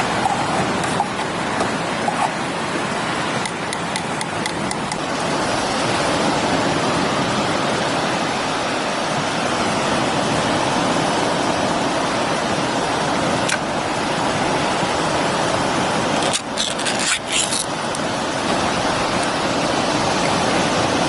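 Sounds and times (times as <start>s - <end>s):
ocean surf in high wind: 0.0s - 21.0s.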